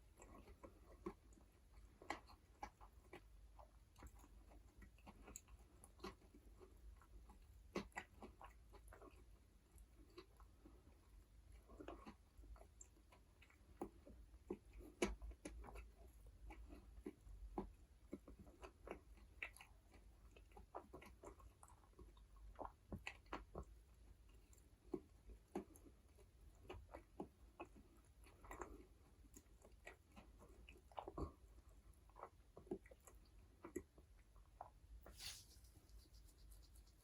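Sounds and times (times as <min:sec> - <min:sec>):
wet mouth chewing sounds: 0:00.0 - 0:37.0.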